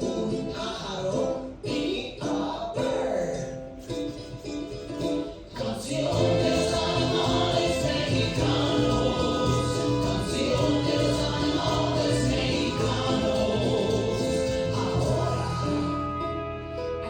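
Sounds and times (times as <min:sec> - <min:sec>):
group singing children's song: 0:00.0 - 0:03.6, 0:05.5 - 0:16.1.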